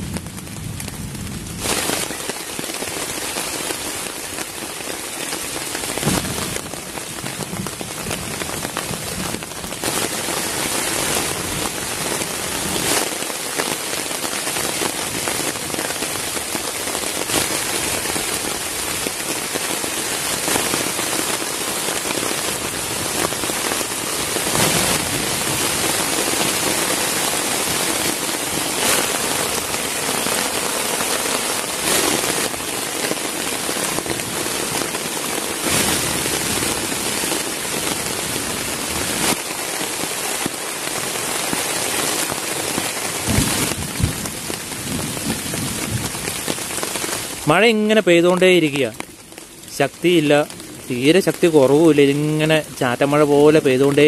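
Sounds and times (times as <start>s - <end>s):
light rain on a tarp: 0.0s - 54.0s
rain spatter: 0.0s - 54.0s.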